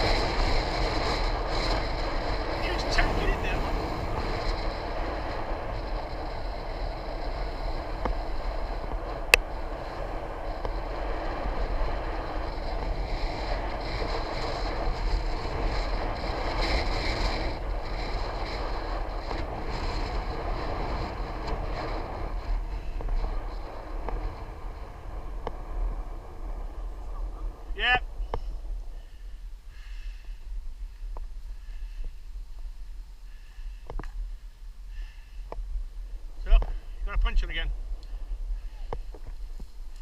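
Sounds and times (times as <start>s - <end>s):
wind and road noise: 0.0s - 40.0s.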